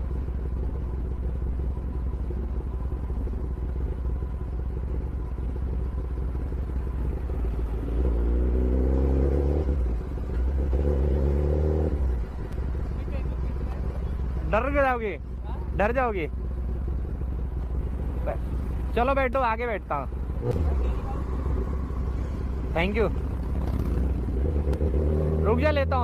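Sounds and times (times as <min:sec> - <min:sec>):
motorcycle engine idling: 0:00.0 - 0:08.6, 0:09.6 - 0:26.0
motorcycle engine revving: 0:00.0 - 0:26.0.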